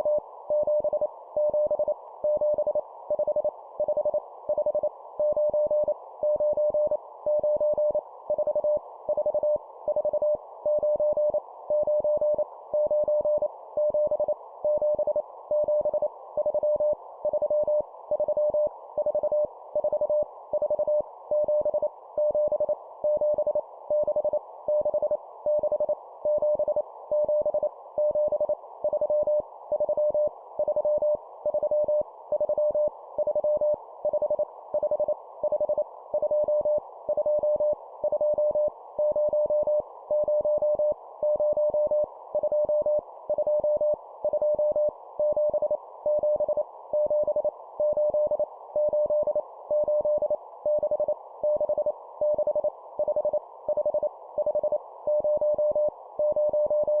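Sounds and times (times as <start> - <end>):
morse code beeps: 0.0 - 57.0.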